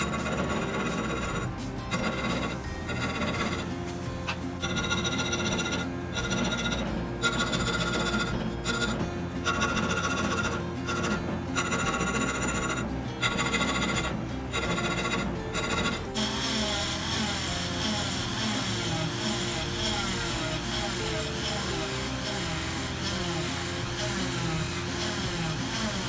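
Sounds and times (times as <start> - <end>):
hand file scraping: 0.0 - 26.0.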